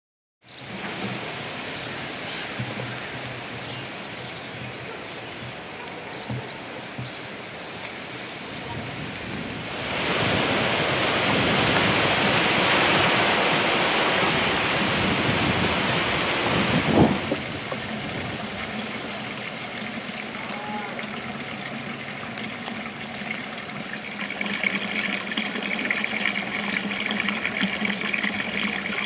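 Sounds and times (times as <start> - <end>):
water splashing from fountain: 0.5 - 29.0.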